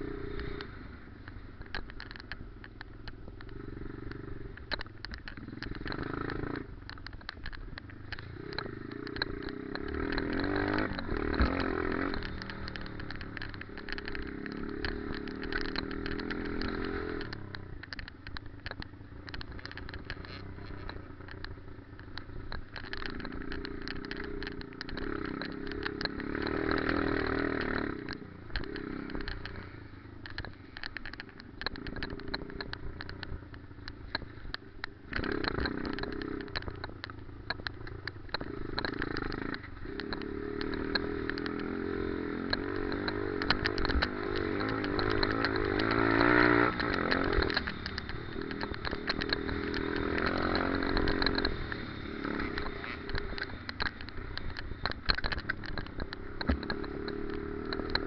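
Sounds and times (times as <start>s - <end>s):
knocks and rattles: 1.6s - 58.0s
motorbike engine revving: 3.2s - 58.0s.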